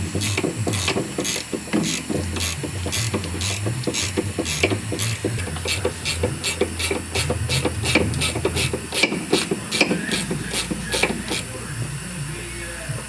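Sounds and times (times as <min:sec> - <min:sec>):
hand ratchet clicking: 0:00.0 - 0:11.5.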